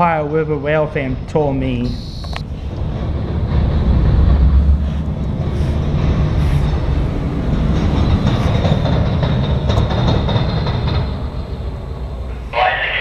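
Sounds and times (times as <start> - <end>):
diesel locomotive engine rumble: 0.0 - 13.0
railcars rolling: 0.0 - 13.0.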